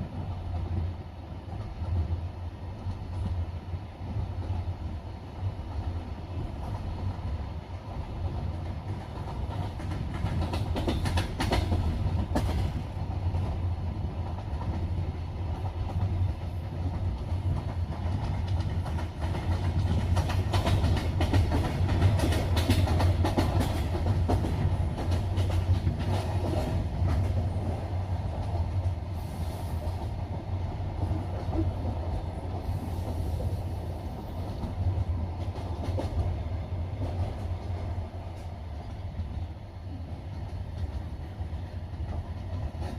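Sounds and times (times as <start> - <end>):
train low rumble: 0.0 - 42.9.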